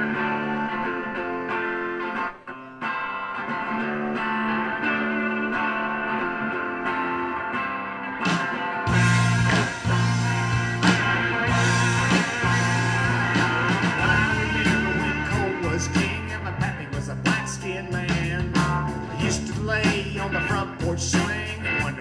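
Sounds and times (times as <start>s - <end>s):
drums: 0.0s - 2.2s, 3.3s - 22.0s
bass guitar: 0.0s - 22.0s
electric guitars: 0.0s - 22.0s.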